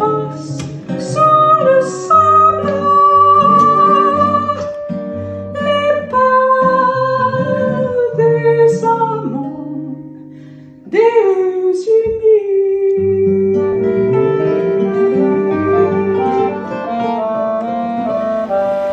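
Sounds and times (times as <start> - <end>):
guitar song: 0.0 - 18.9.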